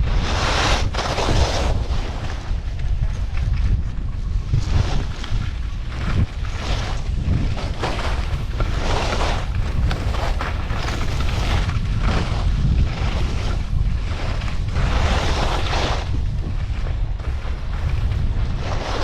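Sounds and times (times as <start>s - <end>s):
skis scraping on snow: 0.0s - 19.0s
wind rumble on microphone: 0.0s - 19.0s.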